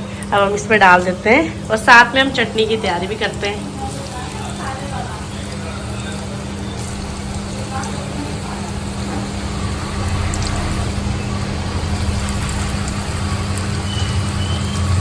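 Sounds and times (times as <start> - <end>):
frying in hot oil sizzling: 0.0 - 15.0.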